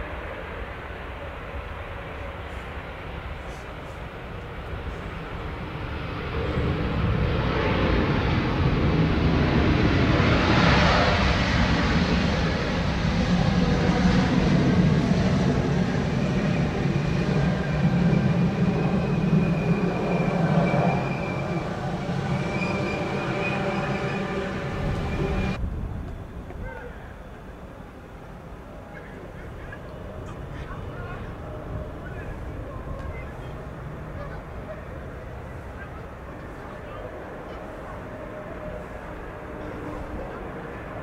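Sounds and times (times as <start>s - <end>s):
high engine whine: 0.0s - 41.0s
jet engine roar: 0.0s - 41.0s.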